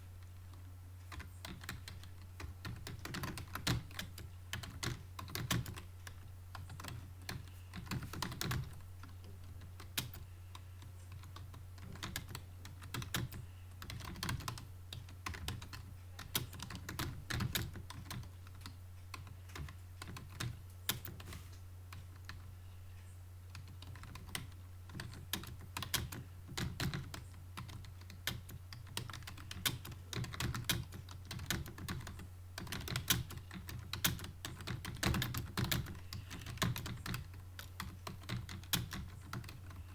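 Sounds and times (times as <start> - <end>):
steady low hum: 0.0 - 39.9
keyboard typing: 1.0 - 22.5, 23.5 - 39.9.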